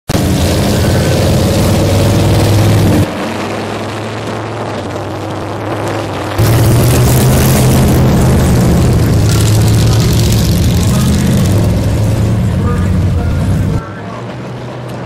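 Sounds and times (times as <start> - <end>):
off-road race engines: 0.1 - 15.0.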